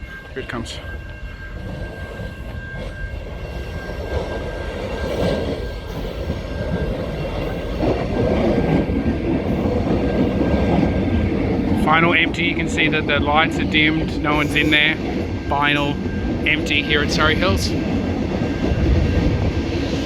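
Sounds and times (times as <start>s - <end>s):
electric train approaching: 0.0s - 20.0s.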